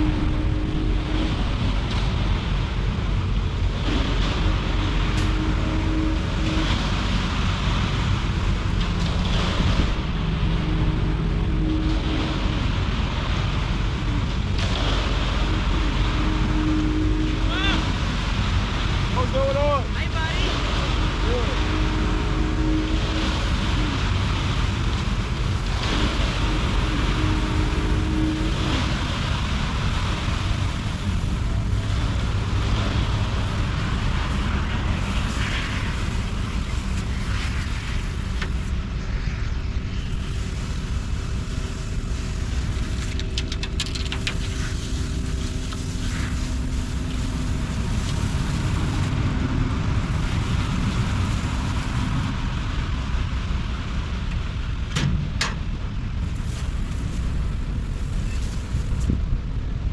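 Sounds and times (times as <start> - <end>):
water hissing from hose: 0.0 - 53.2, 56.2 - 59.2
diesel engine running: 0.0 - 59.9.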